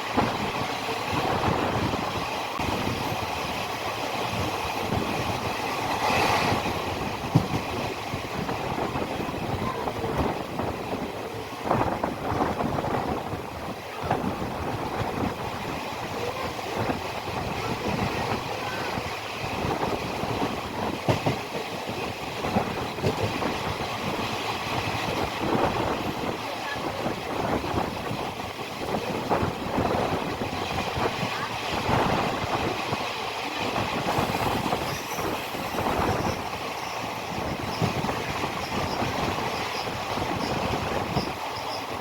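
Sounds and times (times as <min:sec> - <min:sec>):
train rumbling on track: 0:00.0 - 0:42.0.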